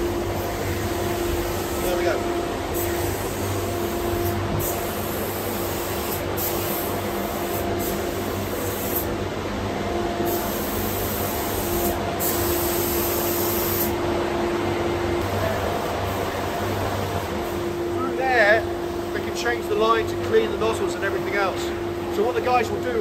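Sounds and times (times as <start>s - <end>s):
faint machinery hum: 0.0s - 23.0s
ventilation air rushing: 0.0s - 23.0s.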